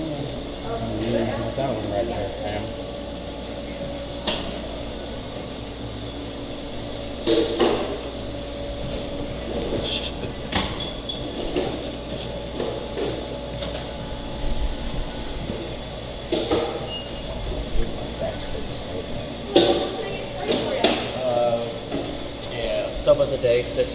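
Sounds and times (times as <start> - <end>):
equipment hum: 0.0 - 23.9.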